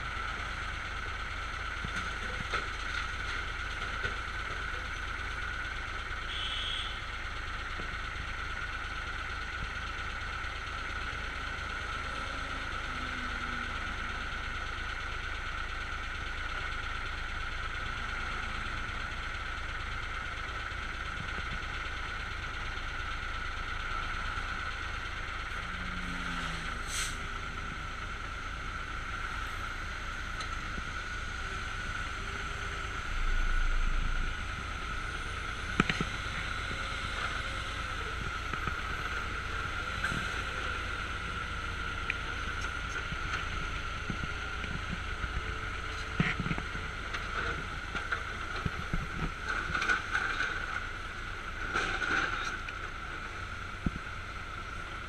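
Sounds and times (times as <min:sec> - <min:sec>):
diesel machinery droning: 0:00.0 - 0:55.0.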